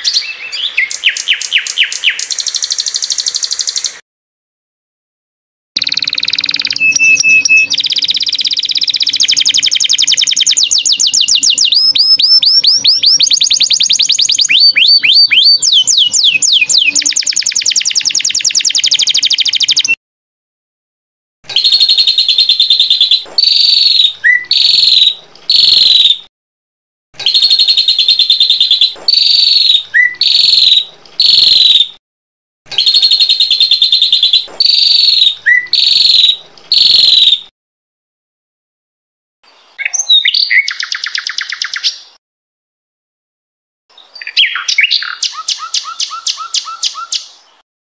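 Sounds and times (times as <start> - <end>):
songbird singing: 0.0 - 4.0, 5.8 - 20.0, 21.5 - 26.3, 27.2 - 32.0, 32.7 - 37.5, 39.5 - 42.2, 43.9 - 47.6.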